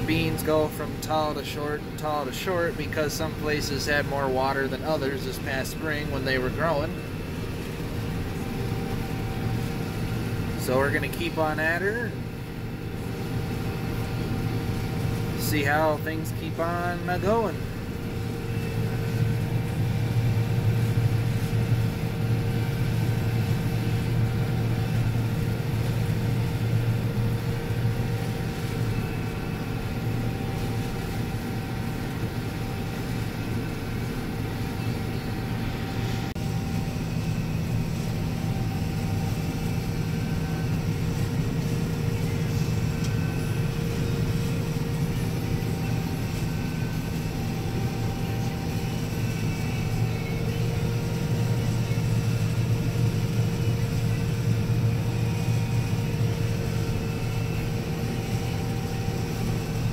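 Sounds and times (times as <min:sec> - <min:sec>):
combine harvester droning: 0:00.0 - 0:59.9
steady humming tones: 0:00.0 - 0:59.9.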